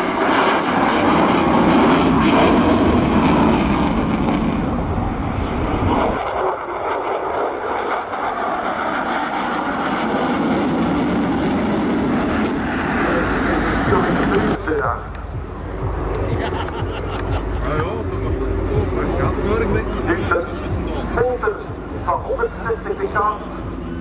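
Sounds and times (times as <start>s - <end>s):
fighter jets roaring past: 0.0s - 24.0s.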